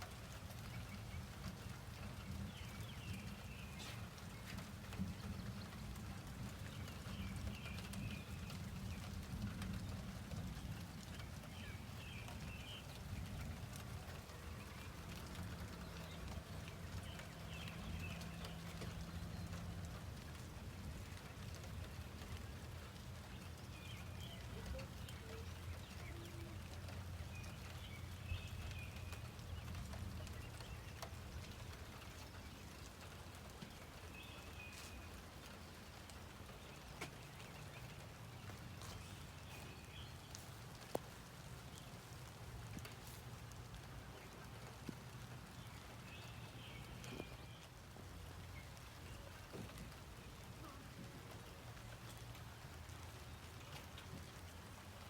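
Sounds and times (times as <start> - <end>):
light rain drips: 0.0 - 55.0.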